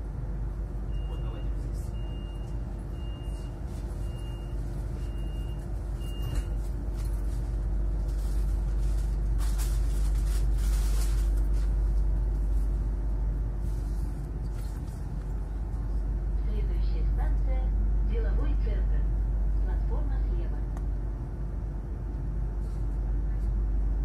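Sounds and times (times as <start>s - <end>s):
train hum: 0.0s - 24.0s.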